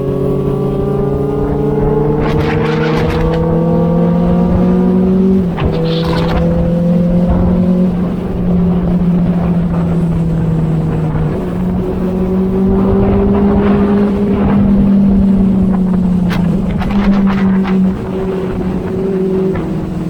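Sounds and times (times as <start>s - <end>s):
motorcycle engine cruising: 0.0s - 20.0s
wind buffeting on microphone: 0.0s - 20.0s.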